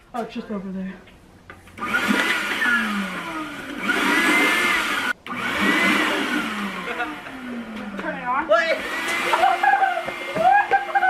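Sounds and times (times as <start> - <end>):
shop vacuum motor whining: 1.7 - 11.0.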